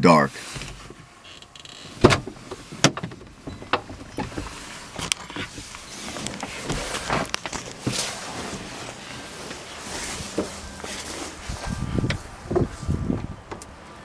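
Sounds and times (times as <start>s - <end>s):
rustling: 0.4s - 13.3s.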